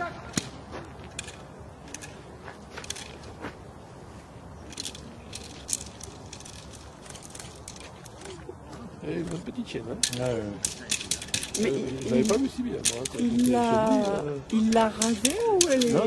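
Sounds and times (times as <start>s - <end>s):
stick cracking and clattering: 0.3s - 3.4s, 4.6s - 8.5s, 9.2s - 16.0s.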